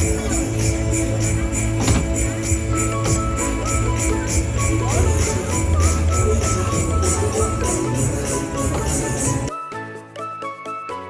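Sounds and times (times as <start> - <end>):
loud music with jingling beat: 0.0 - 9.5.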